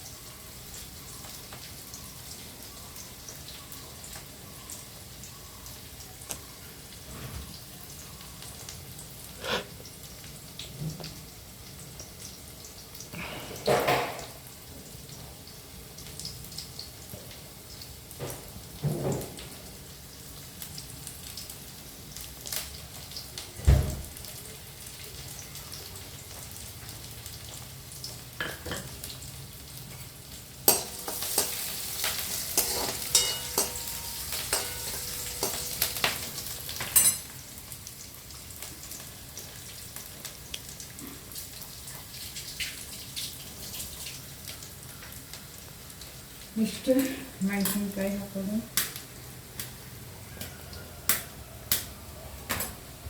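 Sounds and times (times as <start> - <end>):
oil sizzling in a pan: 0.0 - 53.0.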